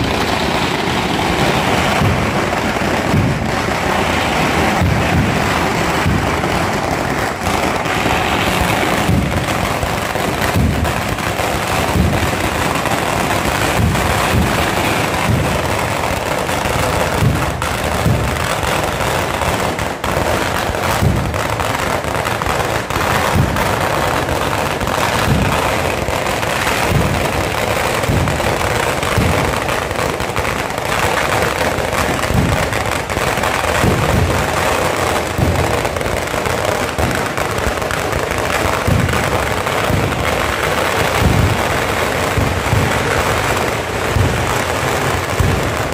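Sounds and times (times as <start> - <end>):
firecrackers crackling: 0.0 - 45.9.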